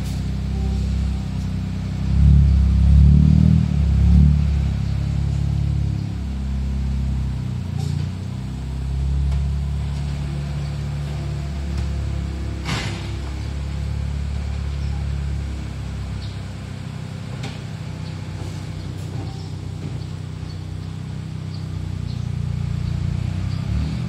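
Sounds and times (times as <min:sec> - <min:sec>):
car engines running at low revs: 0:00.0 - 0:24.0.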